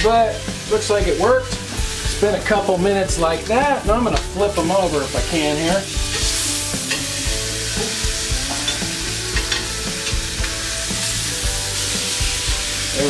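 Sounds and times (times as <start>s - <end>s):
steaks sizzling on grill pan: 0.0s - 13.0s.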